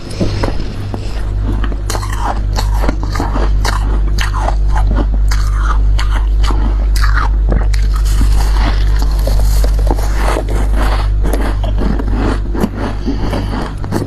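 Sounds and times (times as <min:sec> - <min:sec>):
chewing frost crunches: 0:00.0 - 0:14.0
steady low hum: 0:00.0 - 0:14.0.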